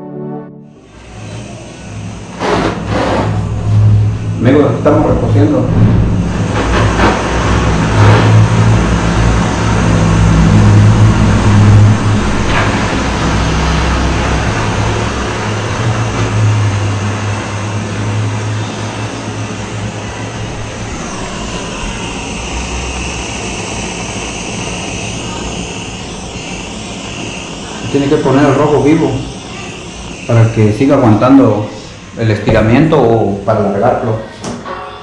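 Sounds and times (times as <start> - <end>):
gas torch flame blowing: 0.7 - 33.4.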